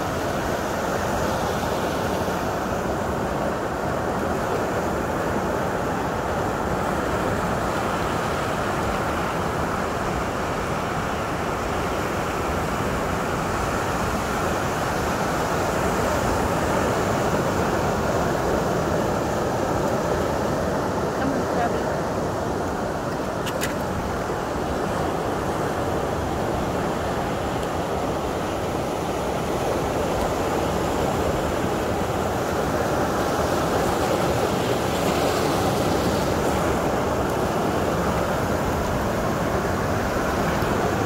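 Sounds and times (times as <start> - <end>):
ocean waves breaking on rocks: 0.0 - 41.0.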